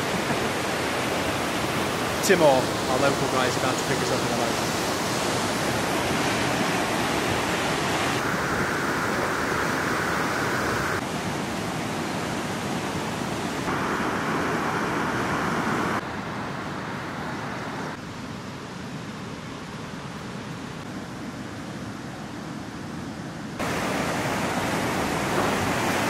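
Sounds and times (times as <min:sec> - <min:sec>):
mountain river rushing: 0:00.0 - 0:26.0.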